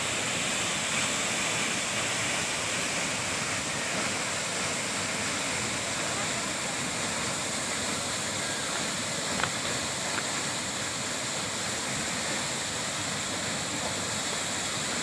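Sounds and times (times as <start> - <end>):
waterfall and river rushing: 0.0 - 15.0.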